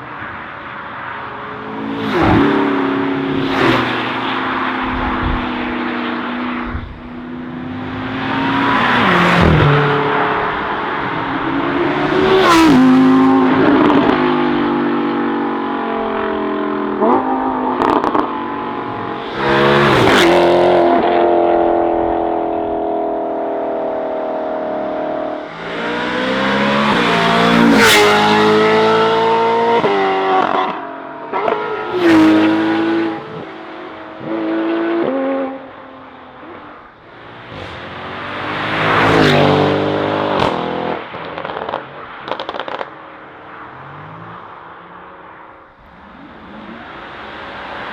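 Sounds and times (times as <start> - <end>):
sports cars accelerating past: 0.2 - 47.9.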